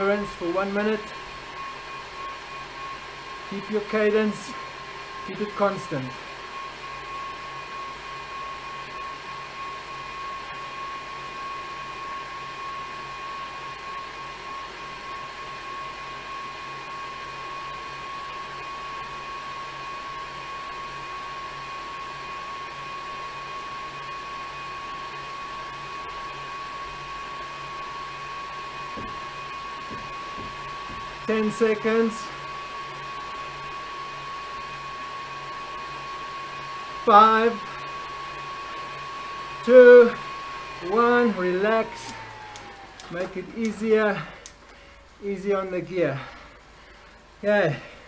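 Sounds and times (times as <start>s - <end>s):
bicycle trainer whirring: 0.0s - 48.0s
high whine: 0.0s - 48.0s.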